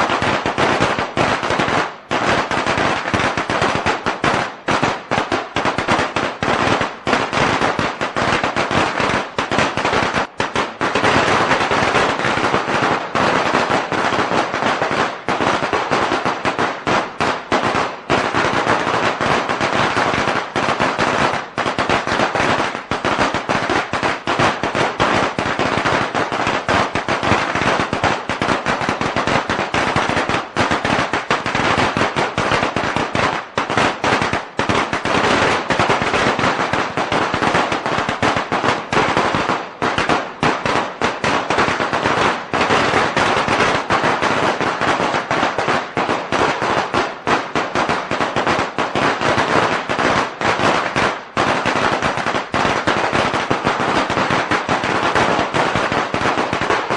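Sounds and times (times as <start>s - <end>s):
firecrackers banging: 0.0s - 56.9s.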